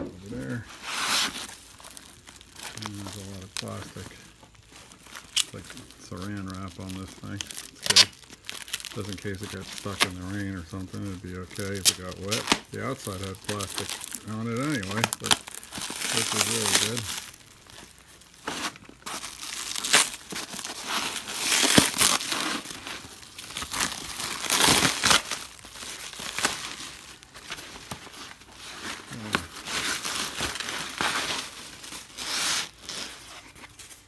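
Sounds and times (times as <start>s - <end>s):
plastic wrap crinkling and tearing: 0.0s - 34.0s.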